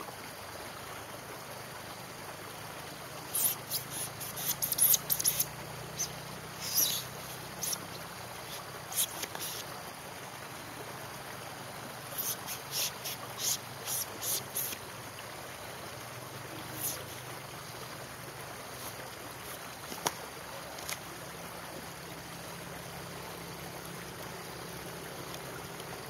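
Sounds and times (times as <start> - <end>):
stream rushing: 0.0 - 26.0.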